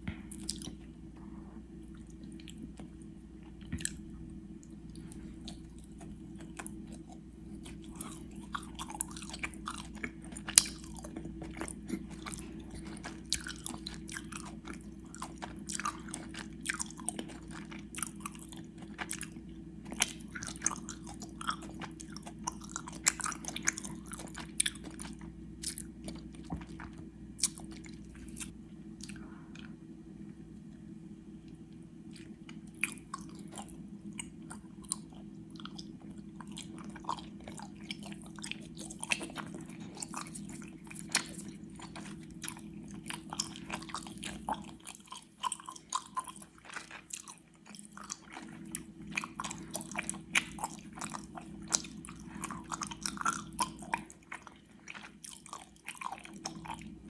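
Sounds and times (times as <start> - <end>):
chewing gummy candy: 0.1 - 1.0, 1.8 - 29.8, 31.5 - 57.0.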